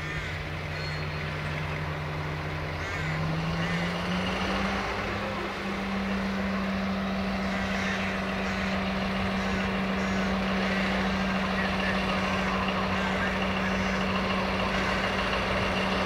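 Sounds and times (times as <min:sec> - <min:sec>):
locomotive engine under load: 0:00.0 - 0:16.0.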